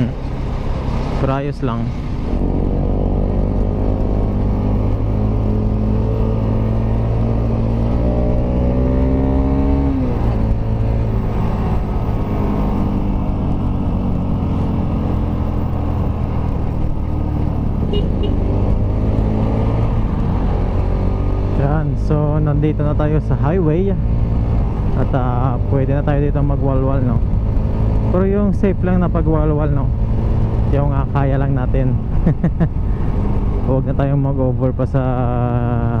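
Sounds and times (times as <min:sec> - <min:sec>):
motorcycle engine accelerating: 0:01.8 - 0:33.9.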